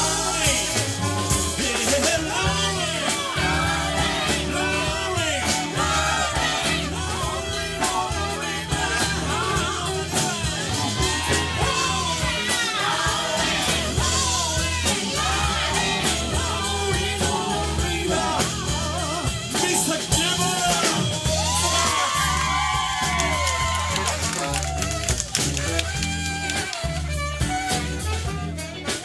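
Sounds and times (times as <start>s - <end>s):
person singing lead vocal: 0.0s - 24.4s
live rock band playing: 0.0s - 29.0s.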